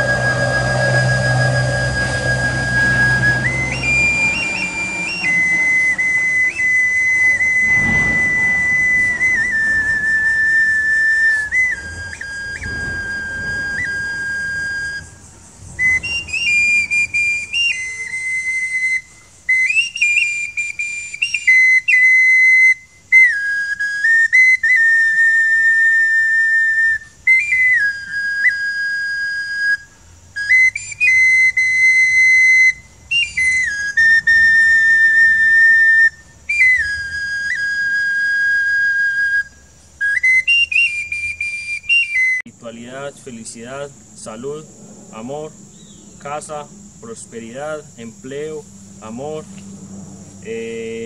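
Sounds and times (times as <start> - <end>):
high whistle flute notes: 0.0 - 49.8.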